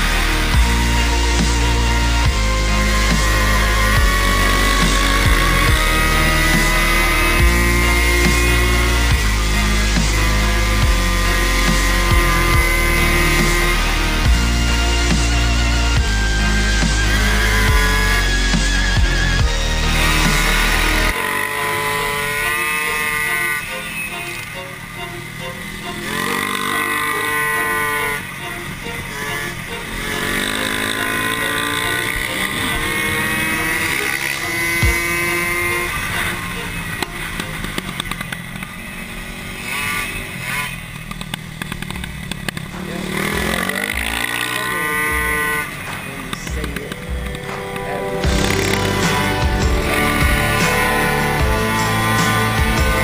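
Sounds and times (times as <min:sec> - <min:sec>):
music: 0:00.0 - 0:38.9, 0:41.8 - 0:53.0
two-stroke engine revving: 0:00.0 - 0:53.0.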